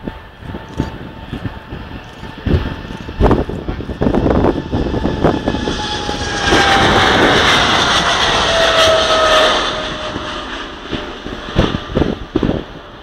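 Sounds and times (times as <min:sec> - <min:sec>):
high engine whine: 0:00.0 - 0:13.0
jet engines roaring: 0:00.0 - 0:13.0.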